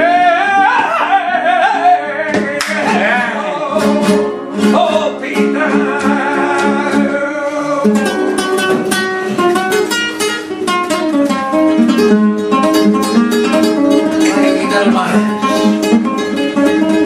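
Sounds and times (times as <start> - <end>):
flamenco guitar playing: 0.0 - 17.0.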